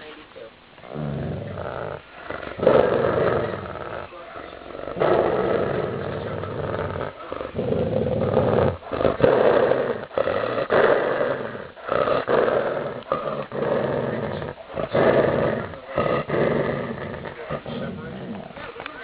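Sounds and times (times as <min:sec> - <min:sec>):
dog growling: 0:00.8 - 0:19.0.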